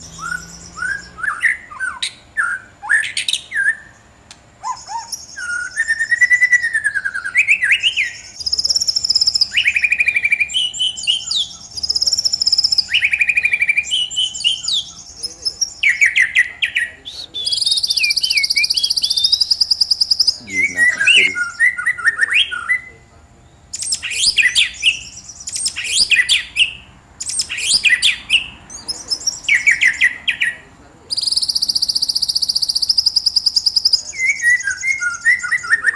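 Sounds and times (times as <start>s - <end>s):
songbird singing: 0.0s - 35.9s.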